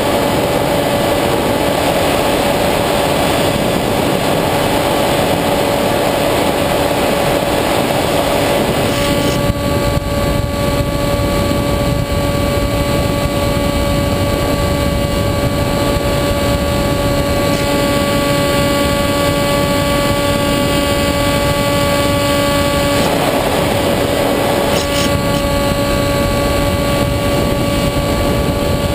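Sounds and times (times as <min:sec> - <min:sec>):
electric motor and propeller whine: 0:00.0 - 0:28.9
wind rush: 0:00.0 - 0:28.9.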